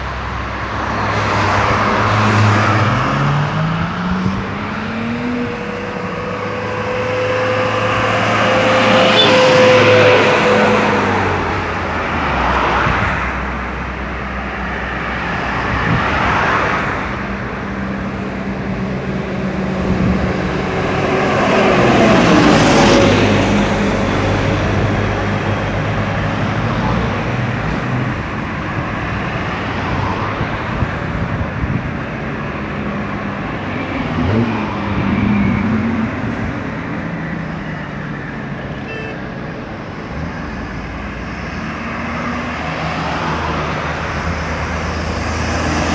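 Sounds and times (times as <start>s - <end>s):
highway traffic passing: 0.0s - 45.9s.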